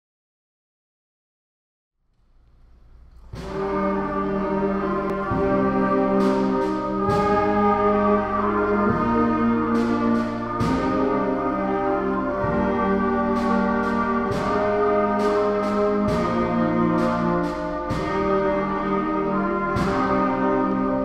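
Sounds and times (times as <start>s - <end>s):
drum strokes: 2.5s - 21.0s
school band playing slow chords: 2.5s - 21.0s.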